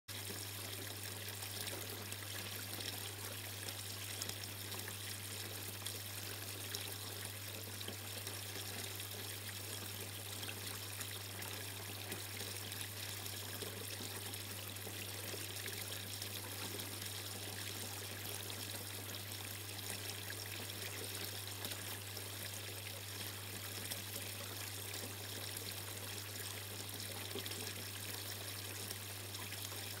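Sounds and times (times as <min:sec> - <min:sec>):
water trickling and splashing: 0:00.1 - 0:30.0.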